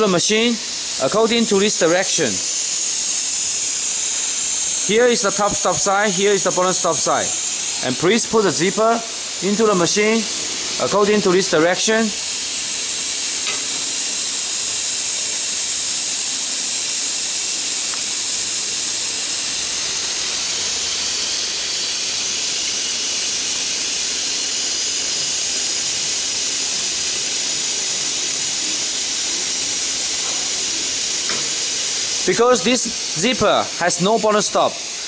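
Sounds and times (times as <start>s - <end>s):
steady high hiss: 0.0s - 35.0s.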